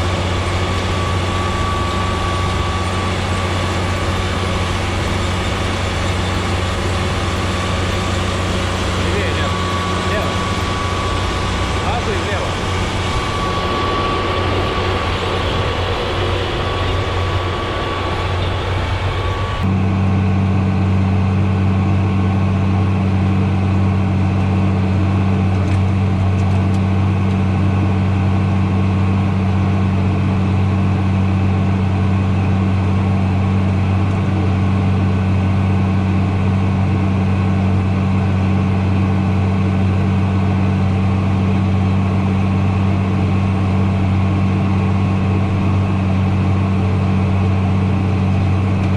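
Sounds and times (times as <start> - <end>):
noisier engine: 0.0 - 48.9
tractor engine droning: 0.0 - 48.9.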